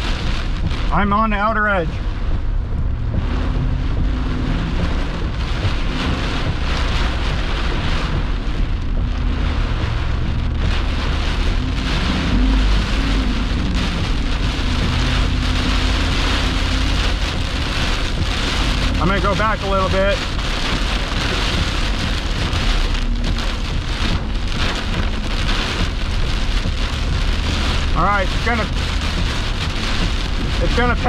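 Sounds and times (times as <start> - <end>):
heavy rain on a vehicle: 0.0 - 31.0
wind and road noise rumble: 0.0 - 31.0.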